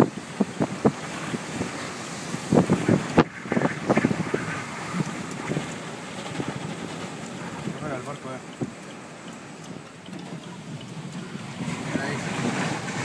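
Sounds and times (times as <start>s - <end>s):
driving rain: 0.0s - 13.0s
wind buffeting microphone: 0.0s - 13.0s.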